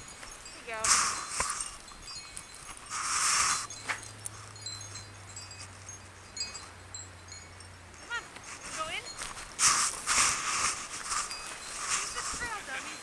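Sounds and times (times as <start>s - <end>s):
wind chimes tinkling: 0.0s - 13.0s.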